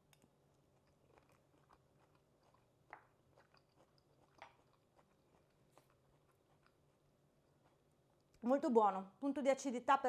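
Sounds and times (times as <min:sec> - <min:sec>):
chewing with soft crunches: 0:00.0 - 0:08.4.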